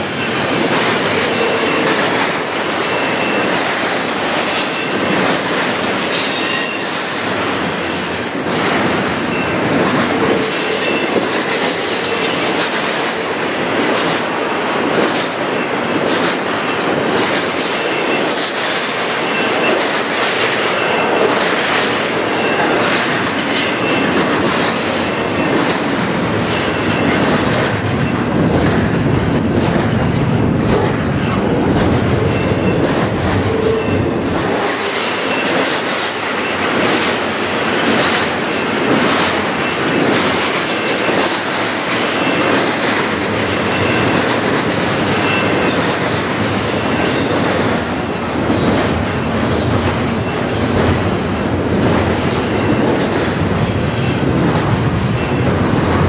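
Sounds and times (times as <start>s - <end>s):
train wheels rumbling on rail: 0.0s - 56.0s
wheels clacking over rail joints: 0.0s - 56.0s.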